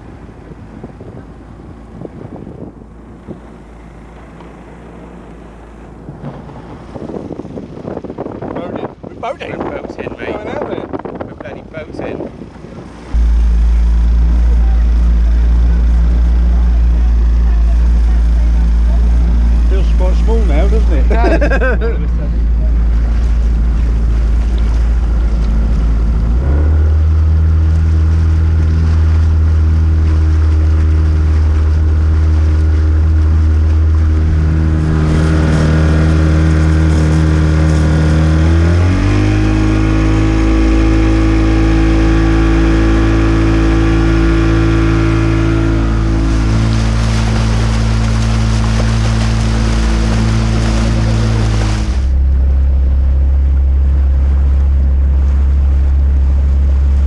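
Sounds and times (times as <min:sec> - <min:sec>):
outboard motor running: 0:00.0 - 0:57.0
water rushing along hull: 0:00.0 - 0:57.0.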